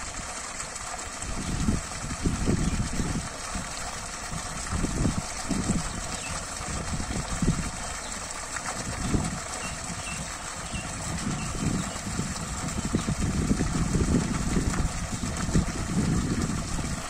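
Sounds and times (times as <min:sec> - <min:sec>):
water rushing: 0:00.0 - 0:17.0
wind buffeting microphone: 0:01.2 - 0:17.0.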